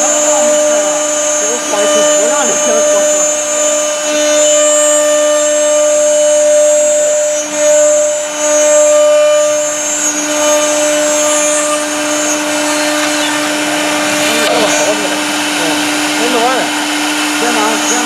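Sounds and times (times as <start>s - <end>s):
router bit cutting wood: 0.0s - 18.0s
router spindle whine: 0.0s - 18.0s.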